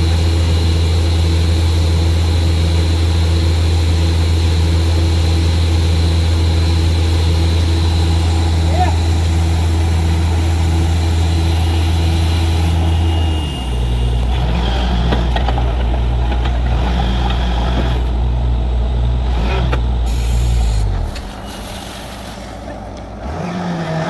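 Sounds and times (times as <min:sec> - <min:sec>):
drilling rig engine humming: 0:00.0 - 0:24.0.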